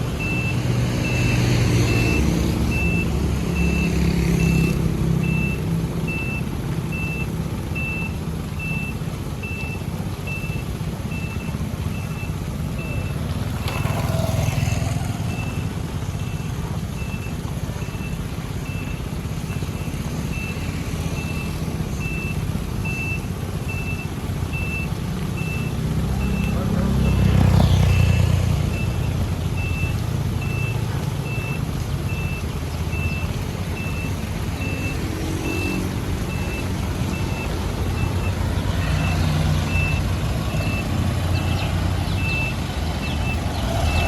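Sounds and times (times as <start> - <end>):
diesel engines rumbling: 0.0 - 44.0
reversing alarm beeping: 0.2 - 27.3, 27.9 - 44.0.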